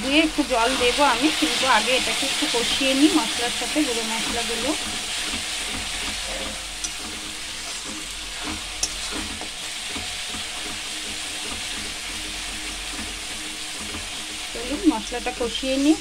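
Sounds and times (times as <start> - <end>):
spice paste sizzling in oil: 0.0 - 16.0.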